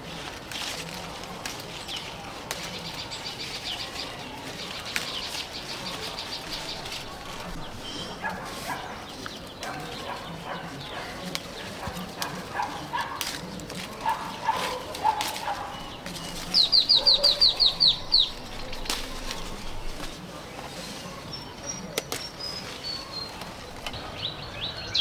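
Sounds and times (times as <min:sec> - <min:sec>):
bird calls: 0:00.2 - 0:25.0.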